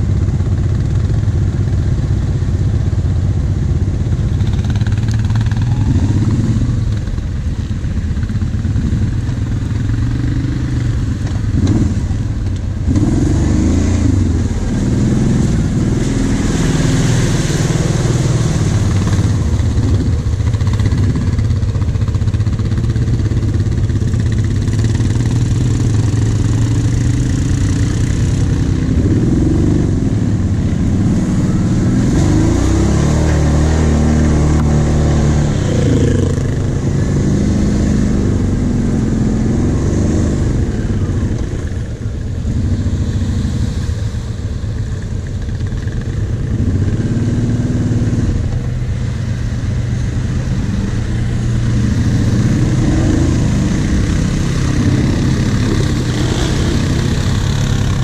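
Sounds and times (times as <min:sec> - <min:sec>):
quad bike engine revving: 0:03.8 - 0:07.2, 0:08.3 - 0:43.8, 0:45.2 - 0:49.2, 0:50.0 - 0:58.0.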